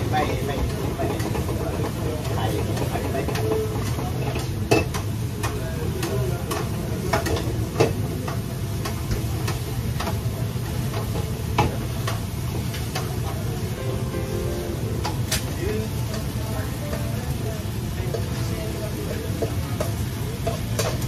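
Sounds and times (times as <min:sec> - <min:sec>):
metal spatulas clanking on woks: 0:00.0 - 0:14.2, 0:18.0 - 0:21.0
food sizzling: 0:00.0 - 0:21.0.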